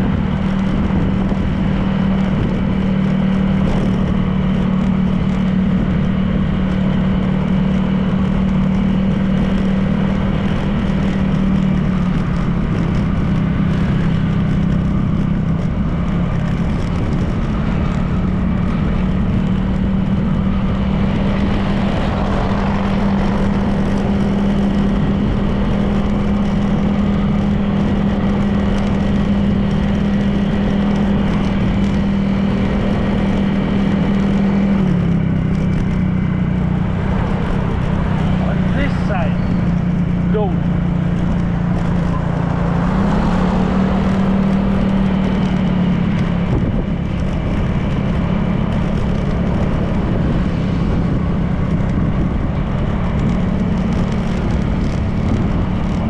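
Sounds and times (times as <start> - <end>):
road noise: 0.0 - 56.0
scooter engine cruising: 0.0 - 56.0
wind noise: 0.0 - 56.0.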